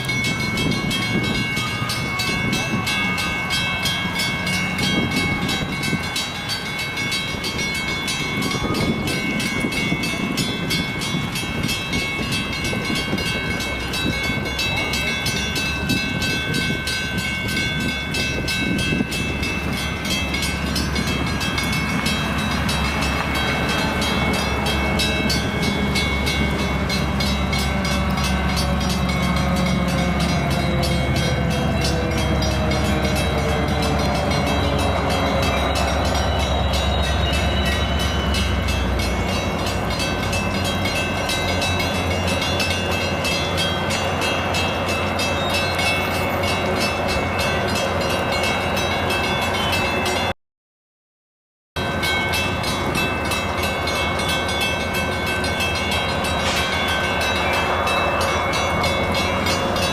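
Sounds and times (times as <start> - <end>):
train rumbling past: 0.0 - 50.3, 51.8 - 59.9
wheel and rail noise: 0.0 - 50.3, 51.8 - 59.9.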